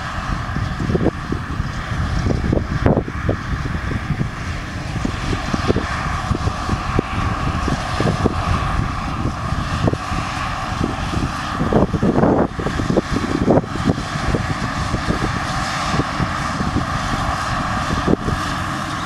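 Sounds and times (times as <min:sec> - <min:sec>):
steady whine: 0:00.0 - 0:19.0
tractor diesel engine under load: 0:00.0 - 0:19.0.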